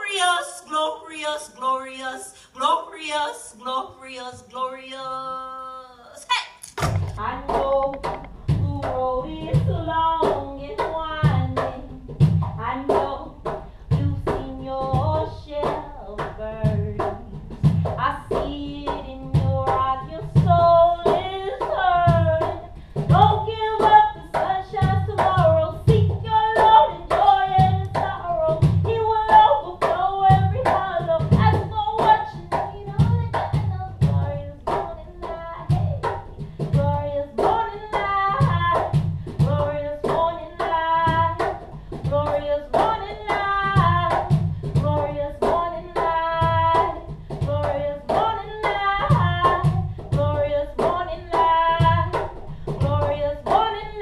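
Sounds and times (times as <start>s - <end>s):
woman singing: 0.0s - 6.6s, 7.2s - 54.0s
cajon played by hand: 6.6s - 54.0s.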